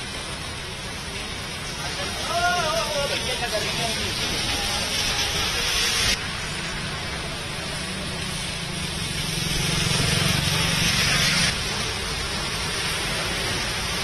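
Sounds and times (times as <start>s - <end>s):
rain and tyre spray hiss: 0.0s - 14.0s.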